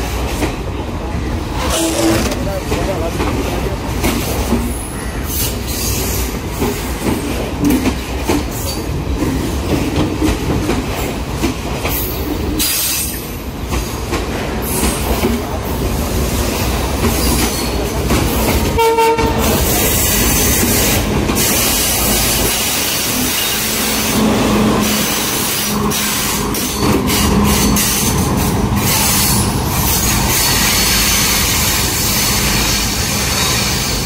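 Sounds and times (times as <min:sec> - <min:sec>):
train carriages rumbling past: 0:00.0 - 0:34.0.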